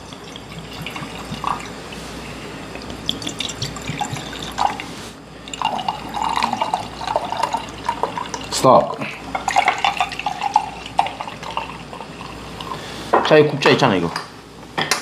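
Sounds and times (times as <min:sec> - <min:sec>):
liquor trickling into glass: 0:00.0 - 0:12.8
beer pouring into glass: 0:00.0 - 0:12.9.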